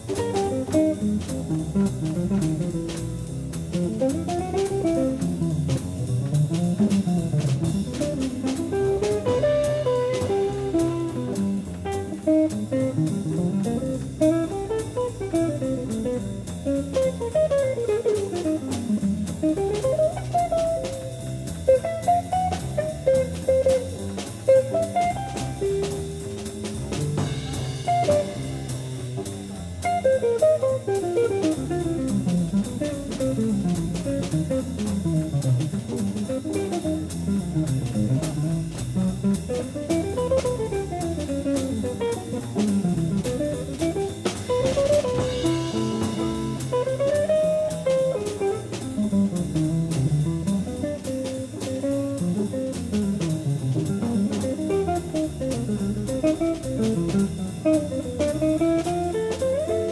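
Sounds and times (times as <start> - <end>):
drum kit: 0.0 - 59.9
walking double bass: 0.0 - 59.9.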